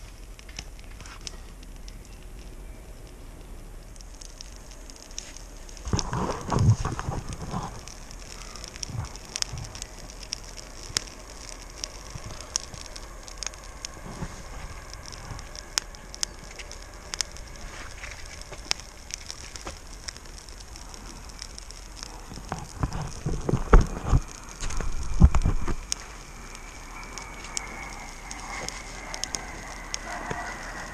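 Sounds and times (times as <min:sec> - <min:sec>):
campfire crackling: 0:00.0 - 0:30.9
fire pops and snaps: 0:00.0 - 0:30.9.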